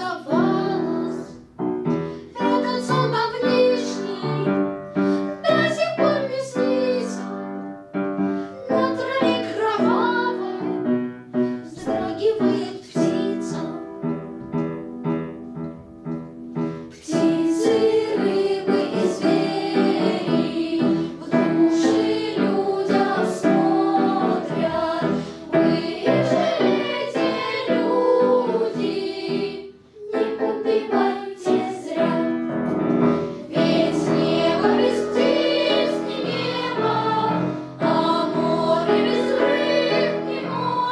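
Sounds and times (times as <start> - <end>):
piano accompaniment: 0.0 - 40.9.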